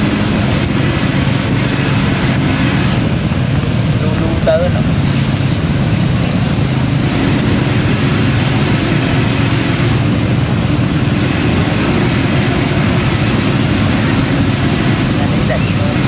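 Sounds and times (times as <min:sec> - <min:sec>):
engine running low rumble: 0:00.0 - 0:16.0
even hiss: 0:00.0 - 0:16.0.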